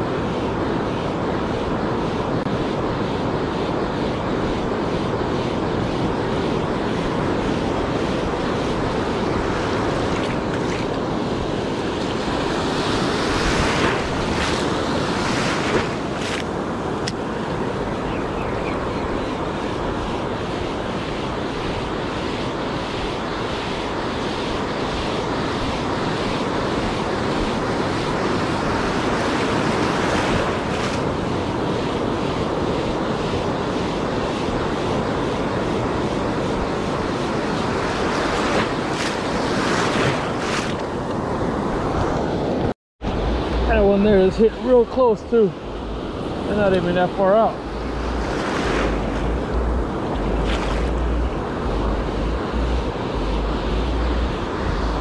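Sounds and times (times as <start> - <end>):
ocean surf on sandy beach: 0.0 - 55.0
wind buffeting microphone: 0.0 - 55.0.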